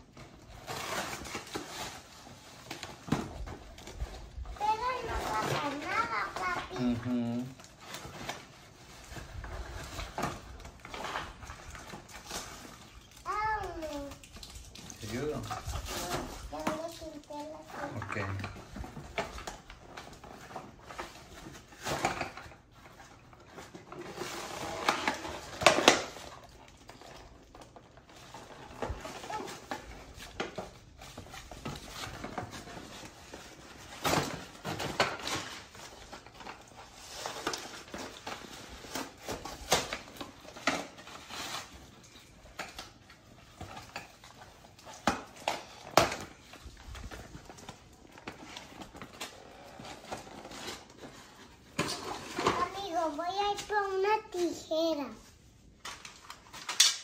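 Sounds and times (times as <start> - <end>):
toy packaging being torn open: 0.1 - 53.9, 55.8 - 57.0.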